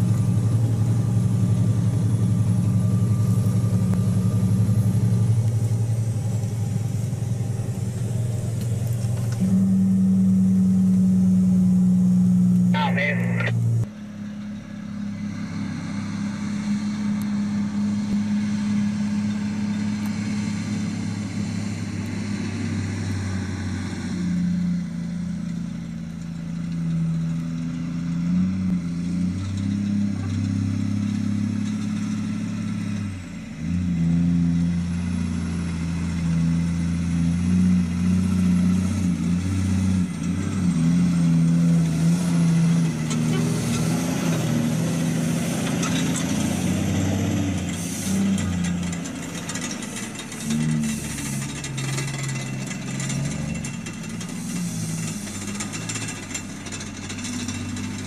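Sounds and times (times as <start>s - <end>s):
truck diesel engine under load: 0.0s - 58.0s.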